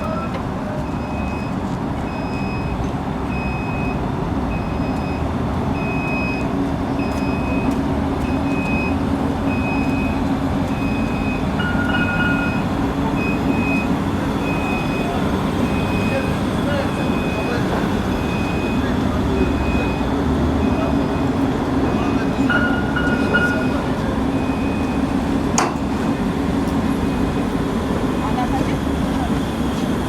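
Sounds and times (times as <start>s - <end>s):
reversing warning beeps: 0.0s - 26.0s
low rumble of motor and traffic: 0.0s - 30.0s.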